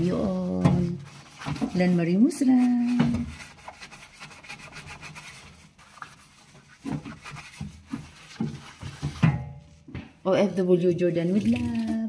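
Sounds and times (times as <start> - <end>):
cloth wiping countertop: 0.0 - 9.8.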